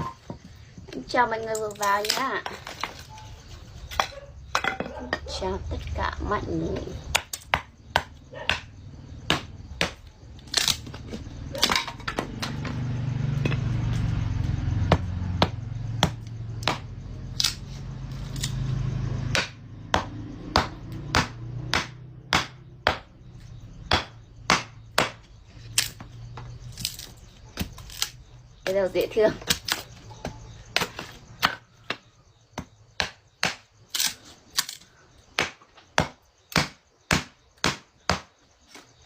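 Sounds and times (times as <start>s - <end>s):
blade chopping firewood: 6.7s - 39.0s.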